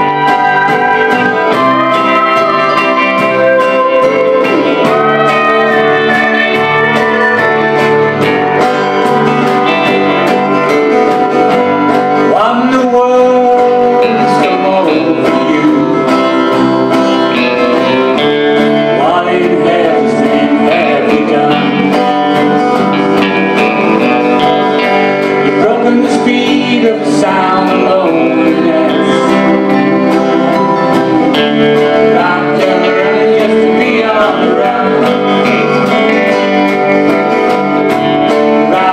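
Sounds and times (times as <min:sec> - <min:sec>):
live country band music: 0:00.0 - 0:38.9
man singing: 0:00.0 - 0:38.9
pedal steel guitar: 0:00.0 - 0:38.9.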